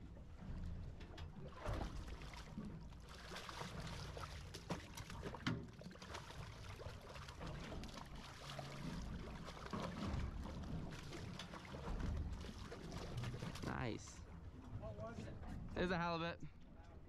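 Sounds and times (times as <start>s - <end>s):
water trickling and lapping: 0.0s - 17.0s.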